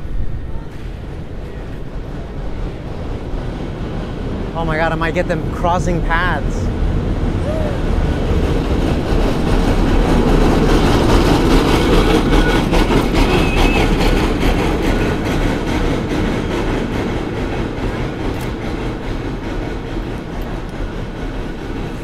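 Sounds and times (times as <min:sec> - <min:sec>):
cable car clacks: 0:00.0 - 0:22.0
cable car wheels on rails: 0:00.0 - 0:22.0.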